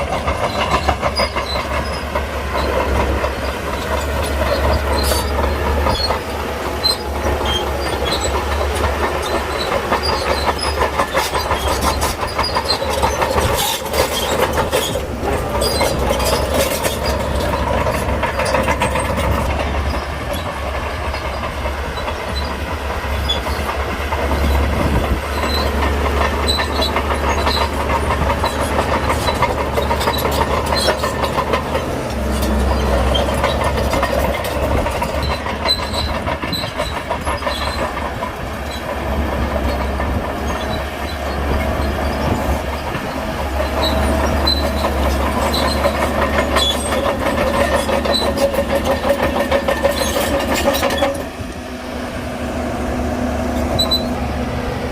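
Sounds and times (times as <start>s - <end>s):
bulldozer diesel engine: 0.0s - 54.9s
steel tracks clanking: 0.0s - 54.9s.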